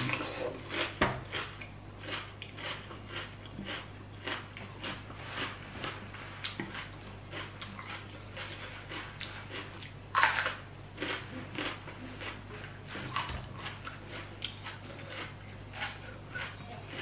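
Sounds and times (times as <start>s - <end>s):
chewing crunchy food: 0.0s - 17.0s
faint low hum: 0.0s - 17.0s.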